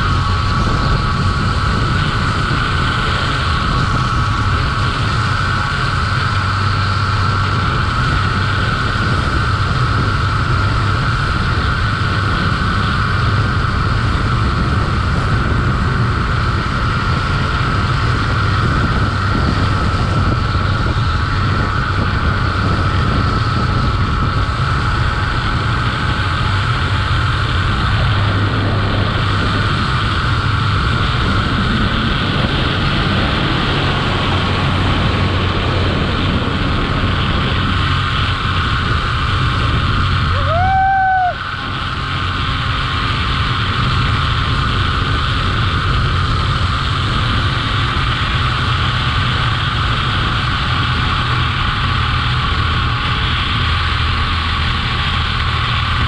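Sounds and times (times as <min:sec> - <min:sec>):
wind rumble on microphone: 0:00.0 - 0:56.0
zip-line pulley whine: 0:00.0 - 0:56.0.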